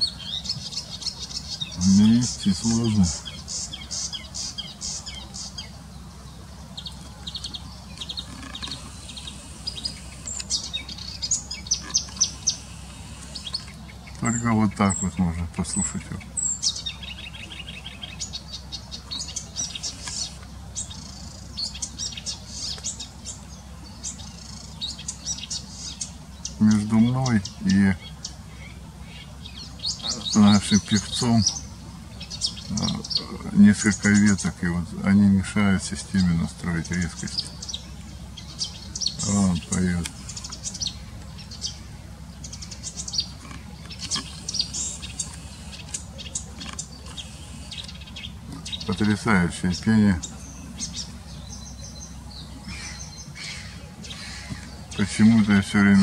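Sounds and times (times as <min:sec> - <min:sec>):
warbler song chattering: 0:00.0 - 0:56.0.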